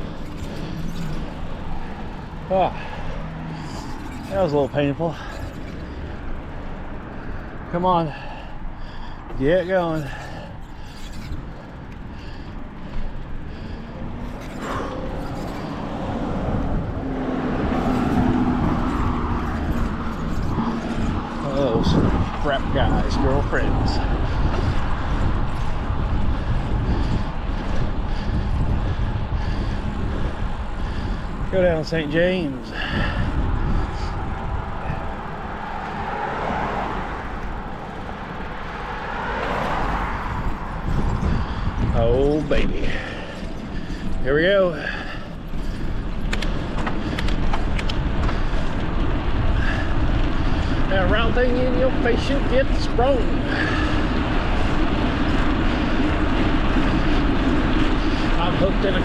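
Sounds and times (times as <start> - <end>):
cars passing: 0.0 - 59.0
vehicle engine hum: 0.0 - 59.0
wind rushing on microphone: 0.0 - 59.0.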